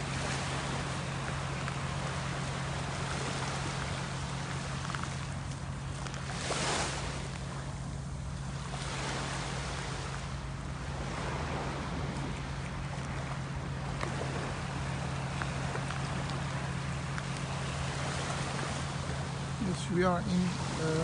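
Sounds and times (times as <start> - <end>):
steady low hum: 0.0 - 21.0
waves washing onto shore: 0.0 - 21.0.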